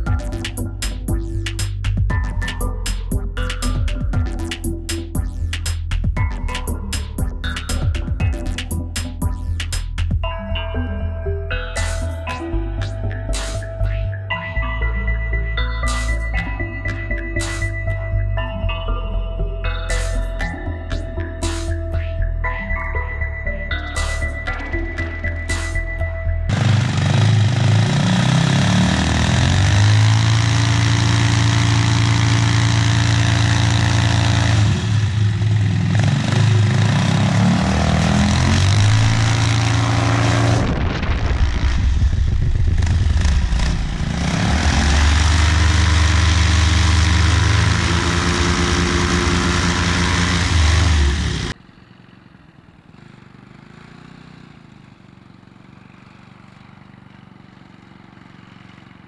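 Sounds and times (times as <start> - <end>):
engine revving: 0.0 - 10.3, 11.8 - 18.8, 23.7 - 51.6, 52.8 - 59.0.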